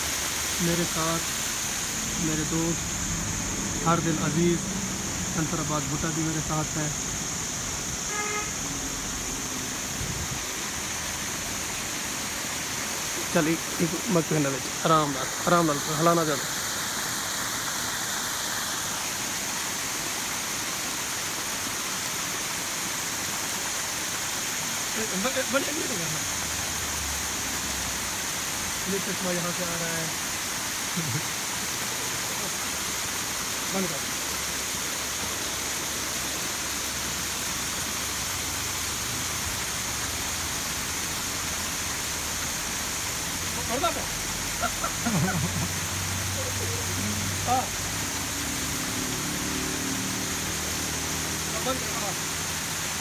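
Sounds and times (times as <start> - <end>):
water cascading over rocks: 0.0 - 53.0.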